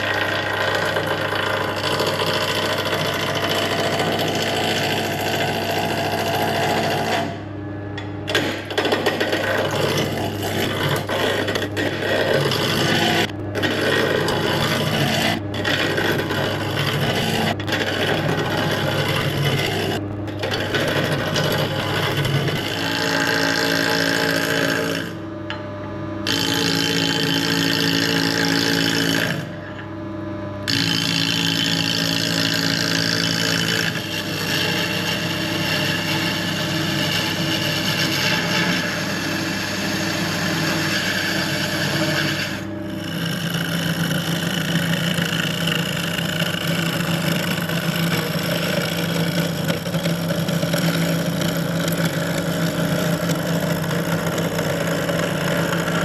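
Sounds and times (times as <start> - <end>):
lathe tool scraping wood: 0.0 - 7.4, 8.3 - 25.3, 26.2 - 29.8, 30.7 - 56.0
lathe motor humming: 0.0 - 56.0.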